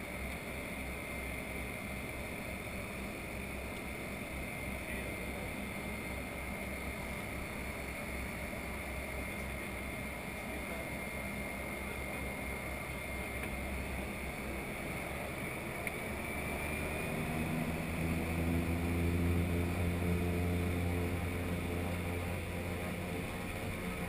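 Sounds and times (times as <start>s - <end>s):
high turbine whine: 0.0s - 24.0s
turboprop engine and propeller running: 0.0s - 24.0s.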